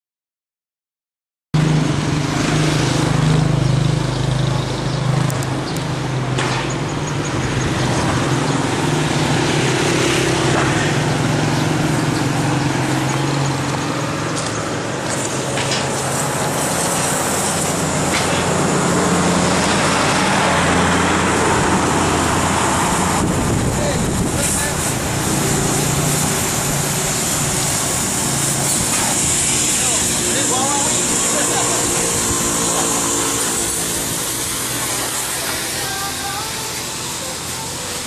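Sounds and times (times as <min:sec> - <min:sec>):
engine humming: 0:01.6 - 0:38.0
loud outdoor noise: 0:01.6 - 0:38.0.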